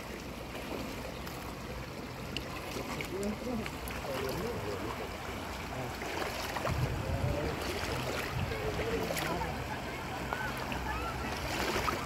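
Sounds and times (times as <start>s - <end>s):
river running over stones: 0.0s - 12.0s.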